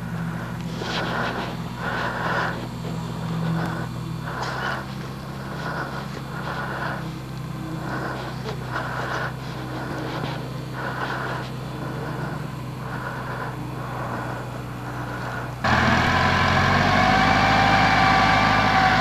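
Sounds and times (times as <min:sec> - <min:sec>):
engine running steady drone: 0:00.0 - 0:19.0.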